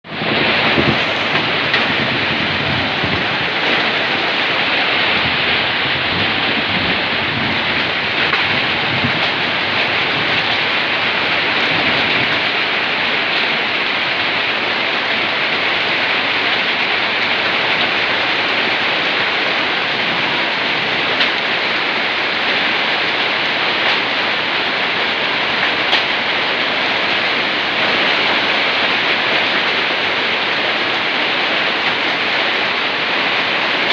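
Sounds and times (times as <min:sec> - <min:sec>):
heavy rain falling: 0:00.0 - 0:33.9
hailstones striking: 0:00.1 - 0:33.9.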